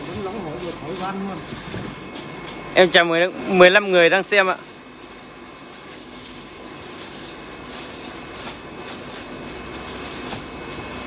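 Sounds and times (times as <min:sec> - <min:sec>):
foil crinkling and rustling: 0:00.0 - 0:11.0
steady background hum: 0:00.0 - 0:11.0.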